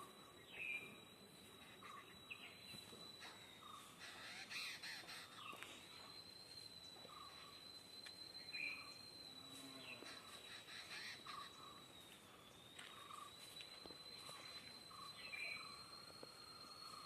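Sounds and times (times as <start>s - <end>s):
faint bird chirps: 0.0s - 17.0s
high-pitched insect-like drone: 0.0s - 17.0s.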